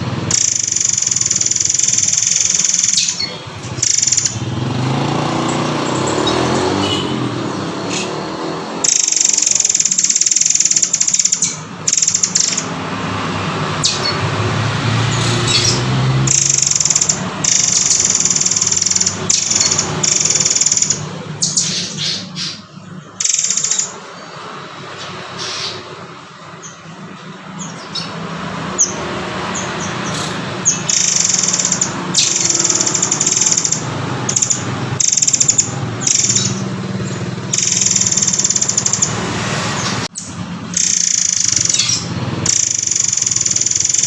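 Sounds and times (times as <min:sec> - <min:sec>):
songbird chirping: 0:00.3 - 0:44.0.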